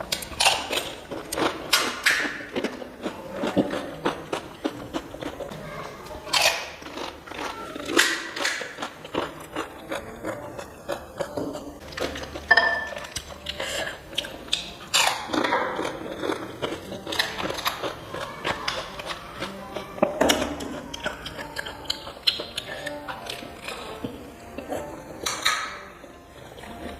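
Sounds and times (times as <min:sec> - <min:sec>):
crunching and chewing crisp food: 0:00.0 - 0:26.9.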